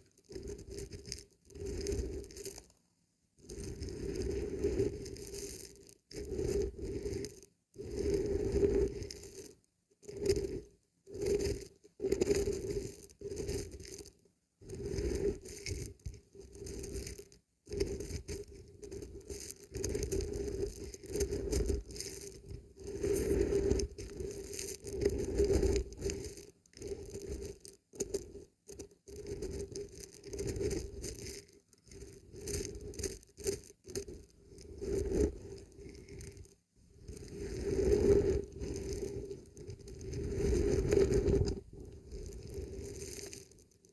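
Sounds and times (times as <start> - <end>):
dried beans rattling: 0.0 - 2.8, 5.0 - 7.5, 11.2 - 14.1, 15.3 - 43.9.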